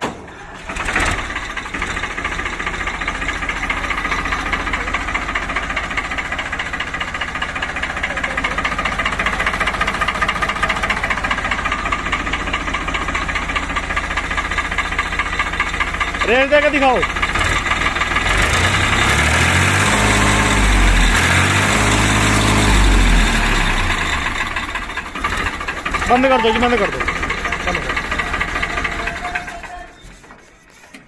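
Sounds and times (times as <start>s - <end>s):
tractor diesel engine starting and idling: 0.0s - 30.7s.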